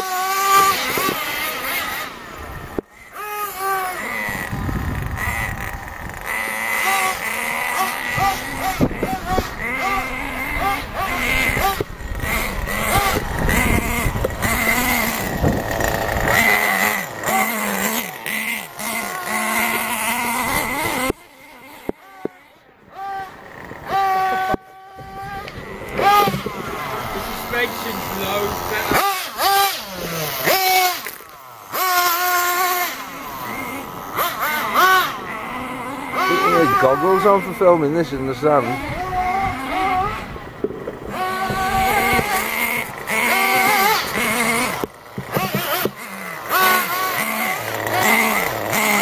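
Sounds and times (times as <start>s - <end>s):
rc car motors revving: 0.0s - 49.0s
steady high whine: 0.0s - 49.0s.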